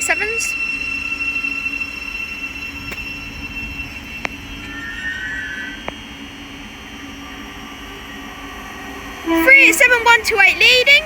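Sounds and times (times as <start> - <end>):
sharp clicks from train wheels: 0.0 - 11.0
train passing with whirring rush: 0.0 - 11.0.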